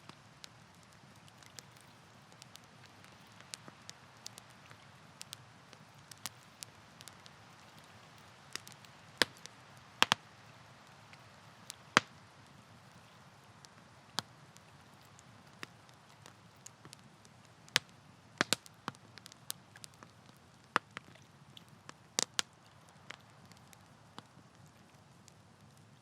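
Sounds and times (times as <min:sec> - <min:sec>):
campfire crackling and popping: 0:00.0 - 0:26.0
faint low hiss: 0:00.0 - 0:26.0.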